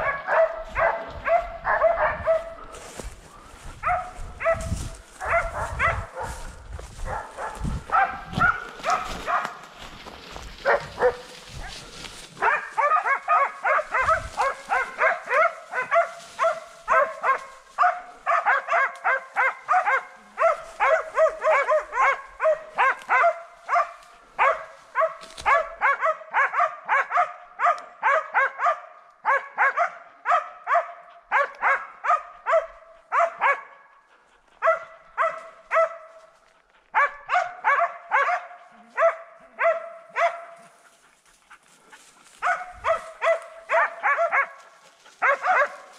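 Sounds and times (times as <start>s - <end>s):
hunting dogs barking: 0.0s - 45.9s.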